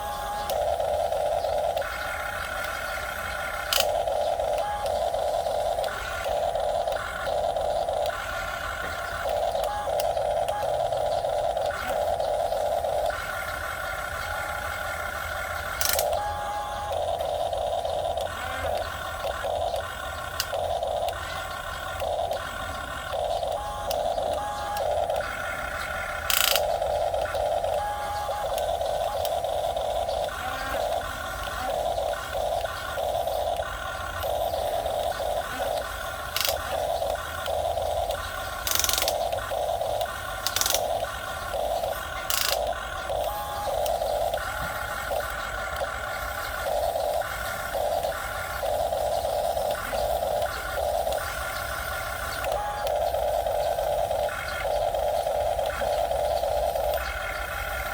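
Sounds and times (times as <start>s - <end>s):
sharp clicks: 0.0s - 57.9s
small electric motors whirring: 0.0s - 57.9s.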